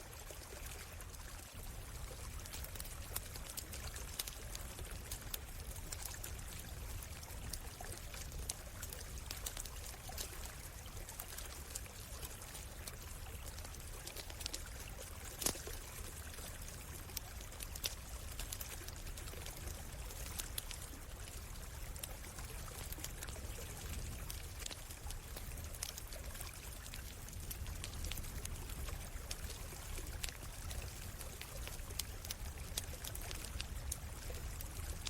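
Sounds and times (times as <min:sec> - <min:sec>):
stream water running: 0:00.0 - 0:35.0
campfire crackling: 0:00.2 - 0:35.0.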